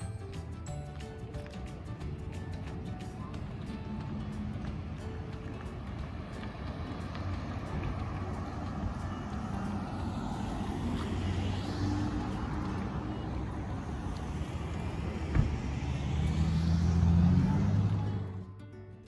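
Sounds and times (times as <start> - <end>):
cars idling and driving: 0.0 - 19.0
vehicle engine pulling away: 1.7 - 18.6.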